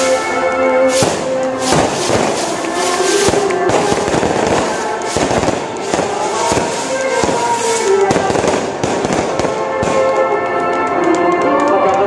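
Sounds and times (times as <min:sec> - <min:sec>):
firecrackers banging: 0:00.0 - 0:12.0
music playing: 0:00.0 - 0:12.0.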